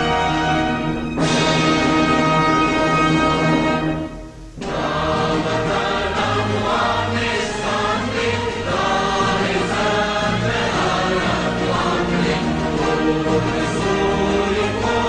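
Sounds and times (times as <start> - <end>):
choir singing with accompaniment: 0.0 - 15.0.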